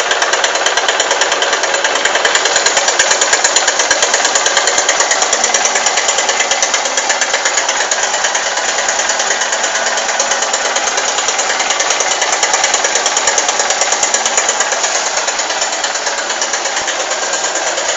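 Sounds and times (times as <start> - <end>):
fast engine ticking: 0.0 - 17.9
motorcycle engine running: 0.0 - 17.9.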